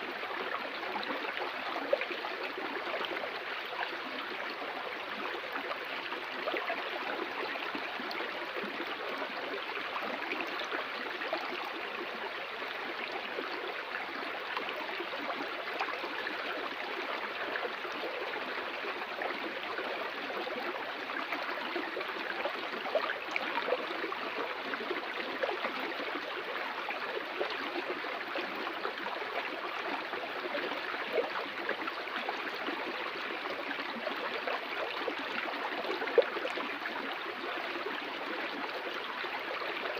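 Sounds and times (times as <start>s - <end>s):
stream water flowing over rocks: 0.0s - 39.9s.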